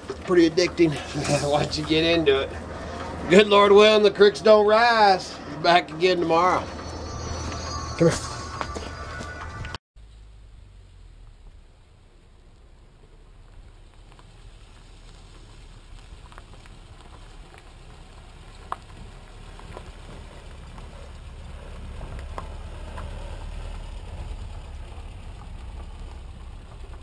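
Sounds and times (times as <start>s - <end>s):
pickup truck engine rumble: 0.0s - 27.0s
tyres crackling on gravel: 0.0s - 27.0s.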